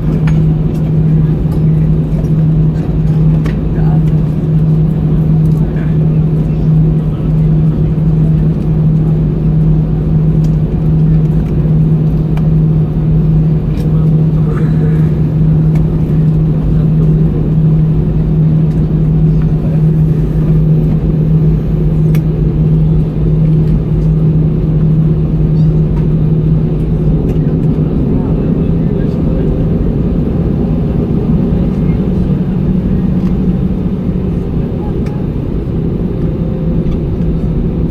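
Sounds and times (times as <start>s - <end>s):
jet engines idling: 0.0s - 37.9s.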